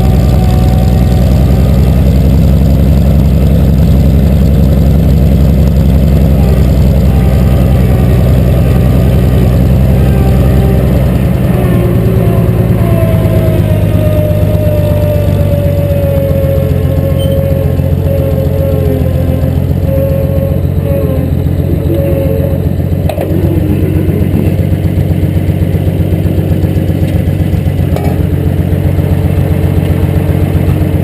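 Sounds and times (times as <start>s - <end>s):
faint whine falling in pitch: 0.0s - 25.1s
tractor engine running: 0.0s - 31.0s.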